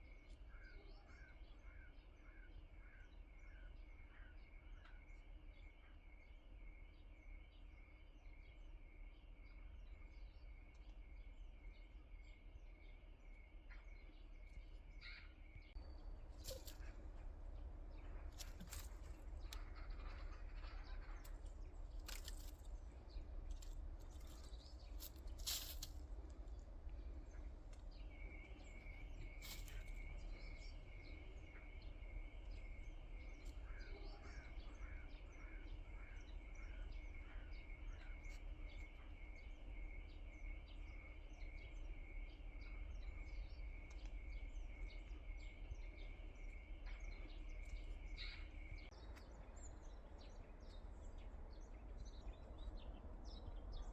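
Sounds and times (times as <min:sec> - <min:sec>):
small birds chirping: 0:00.0 - 0:53.9
low steady rumble: 0:03.2 - 0:53.9.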